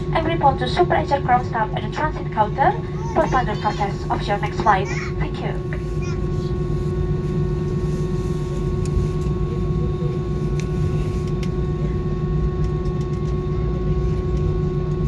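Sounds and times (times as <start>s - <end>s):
jet engines at low power: 0.0s - 15.0s.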